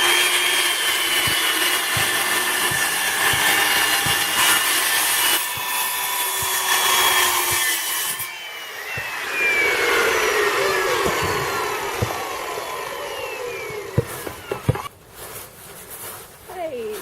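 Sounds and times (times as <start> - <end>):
power saw cutting wood: 0.0 - 14.9
saw blade spinning down: 0.0 - 14.9
sharp knocks: 0.0 - 14.9.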